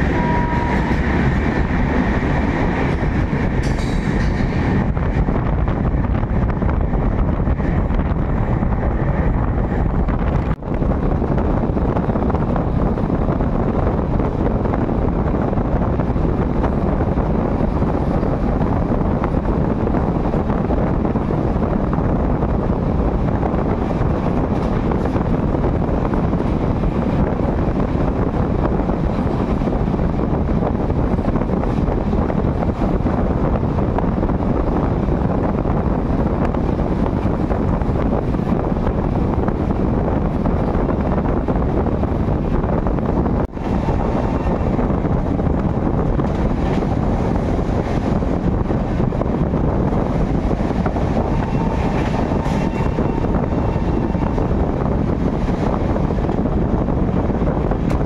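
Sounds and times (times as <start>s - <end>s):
train rumble and wind rush: 0.0s - 58.0s
wind buffeting microphone: 0.0s - 58.0s.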